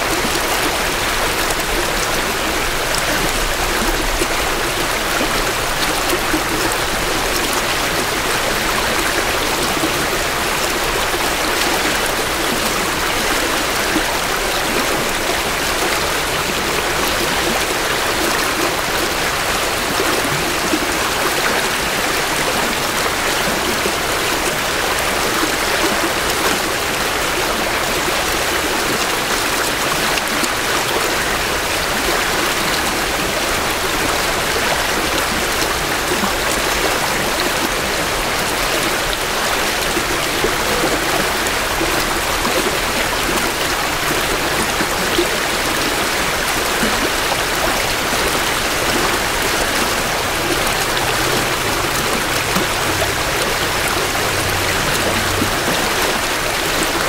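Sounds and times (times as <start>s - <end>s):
creek rushing and babbling: 0.0s - 57.0s.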